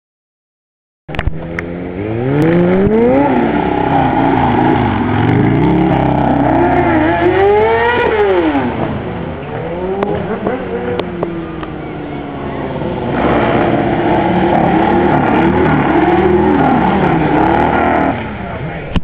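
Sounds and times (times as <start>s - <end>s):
motorcycle engine revving: 1.2s - 18.8s.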